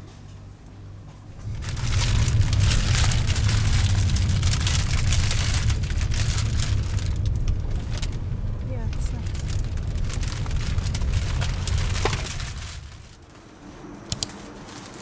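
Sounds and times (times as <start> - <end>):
car road noise: 1.2 - 15.0.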